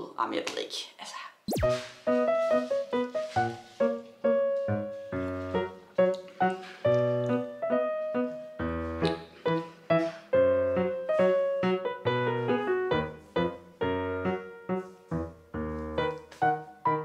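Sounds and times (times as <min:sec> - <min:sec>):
piano melody: 0:01.5 - 0:06.2, 0:06.8 - 0:17.0.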